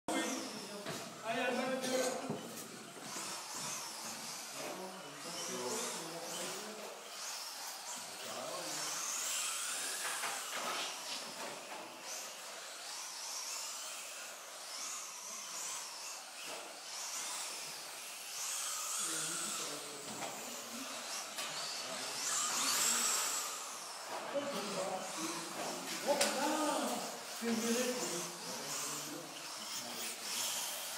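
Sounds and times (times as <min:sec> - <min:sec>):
toy kart motor whining: 0:00.1 - 0:30.9.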